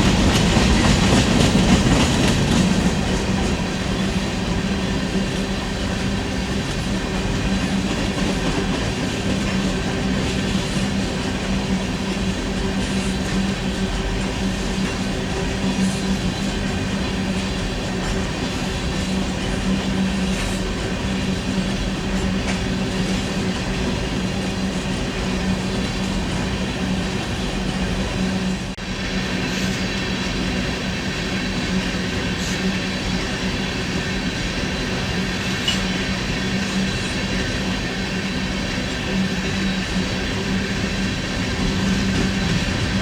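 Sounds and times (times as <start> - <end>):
freight train wheels rumbling on rail: 0.0 - 43.0.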